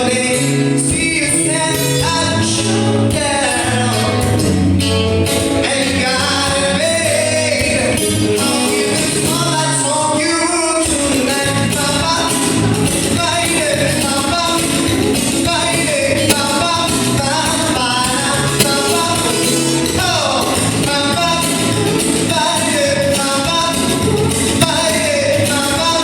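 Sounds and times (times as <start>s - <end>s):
person singing: 0.0s - 4.7s, 5.4s - 26.0s
amplified latin pop song: 0.0s - 26.0s.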